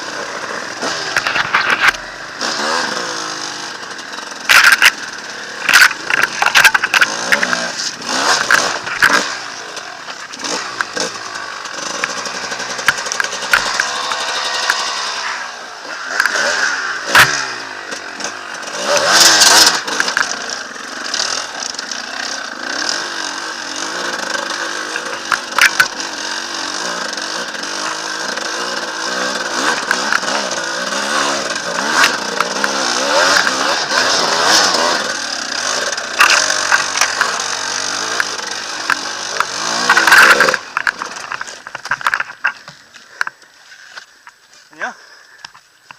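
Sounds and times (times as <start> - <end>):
motorcycle engine revving: 0.0 - 44.3.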